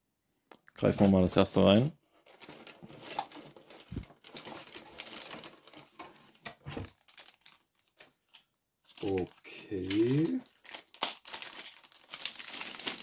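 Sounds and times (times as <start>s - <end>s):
cardboard and plastic rustling: 0.8s - 13.0s.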